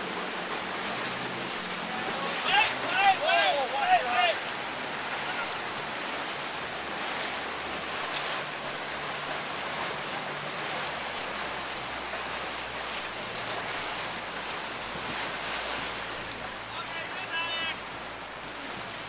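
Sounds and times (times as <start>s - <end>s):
water rushing from bow wave: 0.0s - 19.0s
water splashes: 0.0s - 19.0s.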